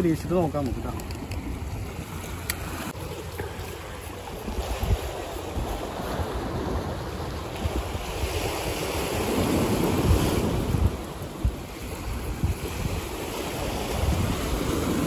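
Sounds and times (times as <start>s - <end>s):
sea waves breaking: 0.0s - 15.0s
wind buffeting microphone: 0.0s - 15.0s.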